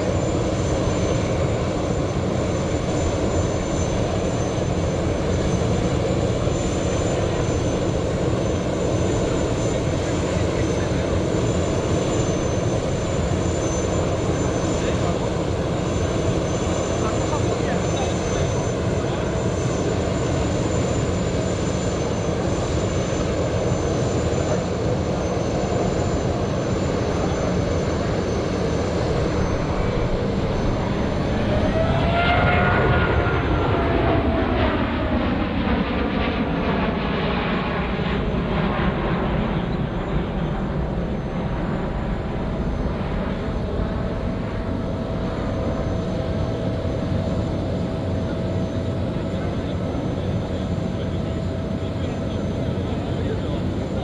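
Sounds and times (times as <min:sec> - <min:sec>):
jet engines passing: 0:00.0 - 0:54.0.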